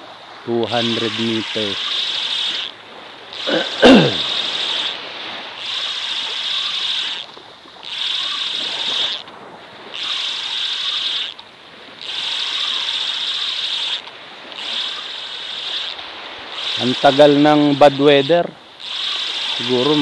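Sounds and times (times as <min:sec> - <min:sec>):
fishing reel whirring: 0:00.6 - 0:20.0.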